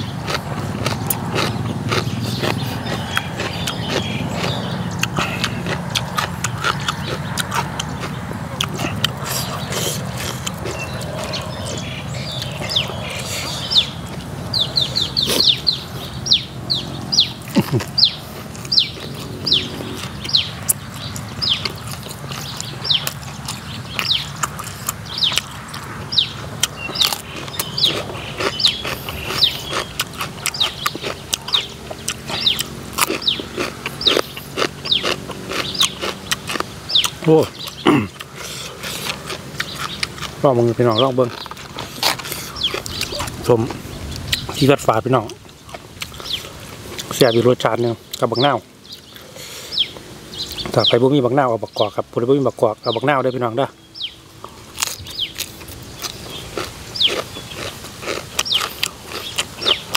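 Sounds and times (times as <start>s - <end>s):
man chewing food: 0.0s - 50.8s, 54.0s - 59.9s
crisp crunches of chewing: 0.0s - 50.9s, 54.2s - 59.9s.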